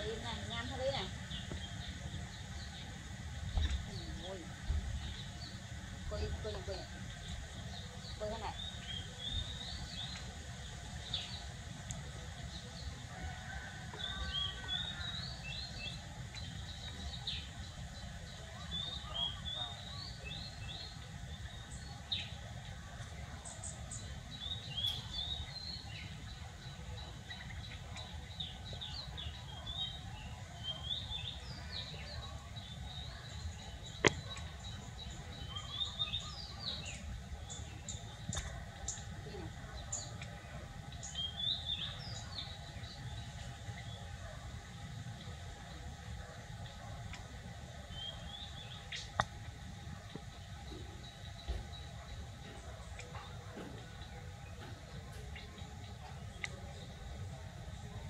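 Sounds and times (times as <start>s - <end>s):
low background rumble: 0.0s - 58.0s
small birds chirping: 0.0s - 58.0s.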